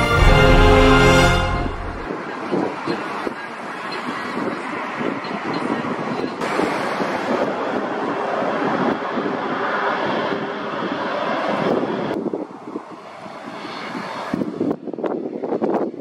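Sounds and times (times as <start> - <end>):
distant jet engines roaring: 0.0 - 16.0
wind buffeting microphone: 2.0 - 16.0.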